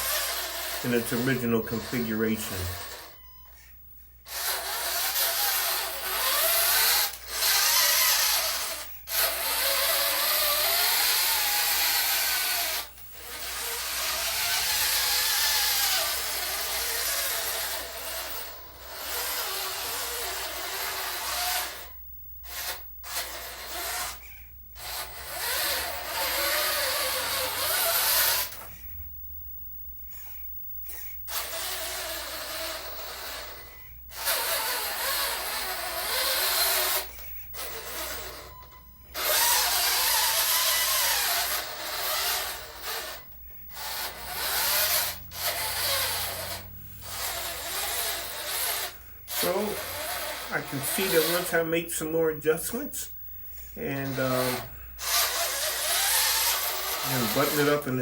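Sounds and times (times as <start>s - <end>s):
small electric motor whining: 0.0s - 58.0s.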